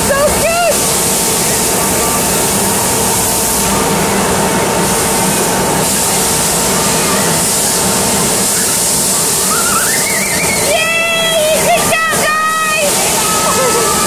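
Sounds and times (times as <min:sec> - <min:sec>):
ride machinery humming: 0:00.0 - 0:14.0.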